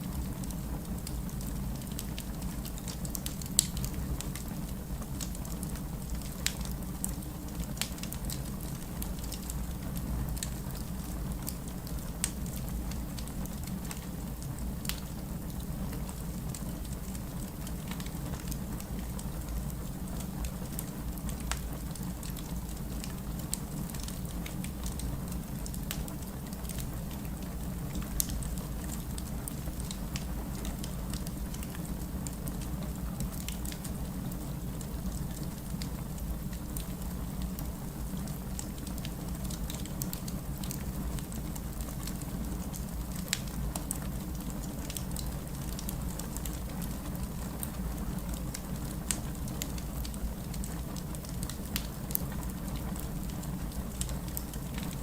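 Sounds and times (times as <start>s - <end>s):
rain: 0.0s - 55.0s
wood fire crackling and popping: 0.1s - 55.0s.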